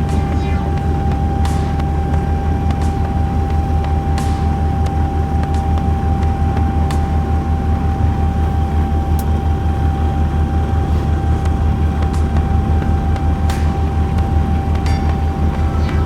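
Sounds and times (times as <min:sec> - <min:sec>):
boat engine throbbing: 0:00.0 - 0:16.0.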